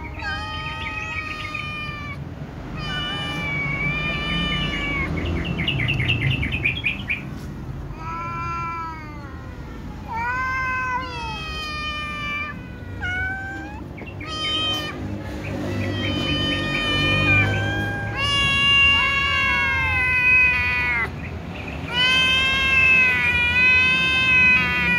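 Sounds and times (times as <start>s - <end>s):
kittens meowing: 0.0s - 24.9s.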